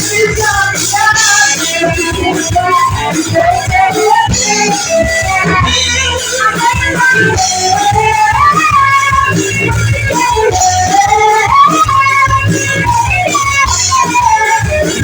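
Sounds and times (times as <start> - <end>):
guitar: 0.0 - 15.0
live band playing: 0.0 - 15.0.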